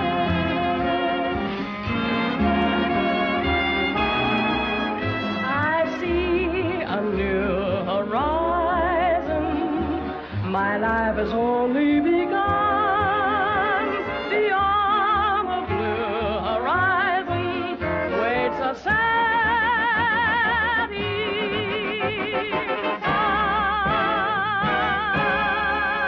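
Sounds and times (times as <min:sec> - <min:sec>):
orchestra playing: 0:00.0 - 0:26.0.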